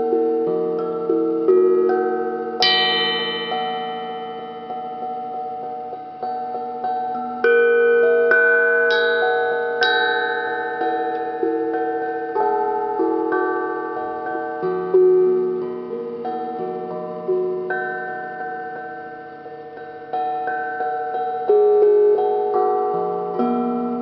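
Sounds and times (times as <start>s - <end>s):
ringing metallic percussion melody: 0.0s - 24.0s.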